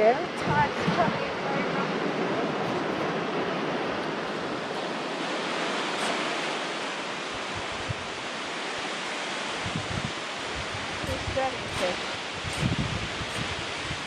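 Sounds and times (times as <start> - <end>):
surf washing up a beach: 0.0 - 14.0
wind buffeting microphone: 0.0 - 14.0.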